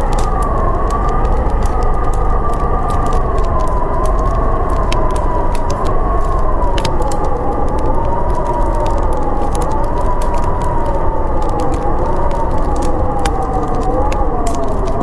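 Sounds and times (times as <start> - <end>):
blizzard wind howling: 0.0 - 15.0
deep rumble: 0.0 - 15.0
wood fire crackling and popping: 0.0 - 15.0.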